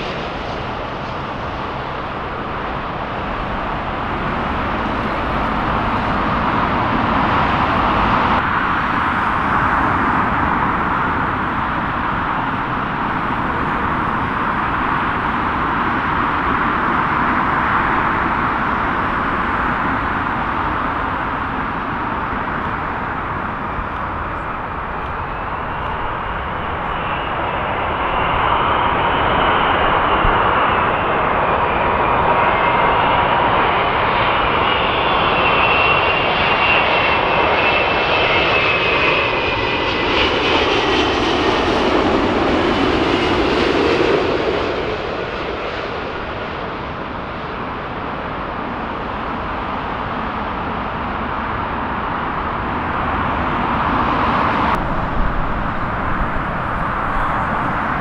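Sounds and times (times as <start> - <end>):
jet airliner engines whining: 0.0 - 58.0.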